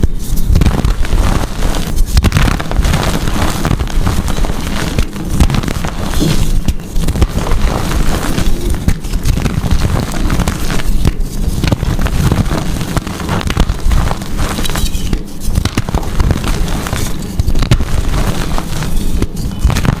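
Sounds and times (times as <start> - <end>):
low rumble: 0.0 - 20.0
chalk blocks being crushed: 0.6 - 20.0.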